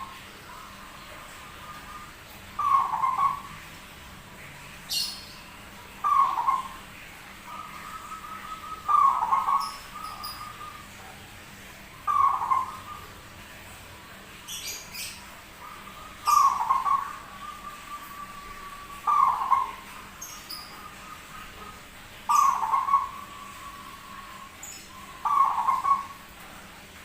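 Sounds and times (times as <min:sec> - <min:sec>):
dove cooing: 0:00.0 - 0:03.7, 0:05.8 - 0:13.5, 0:14.6 - 0:26.4.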